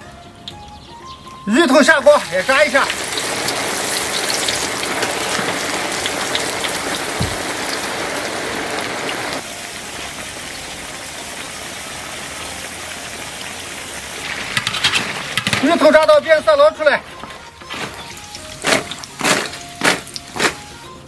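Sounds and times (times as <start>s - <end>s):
food deep-frying in hot oil: 1.3s - 16.2s, 17.0s - 21.0s.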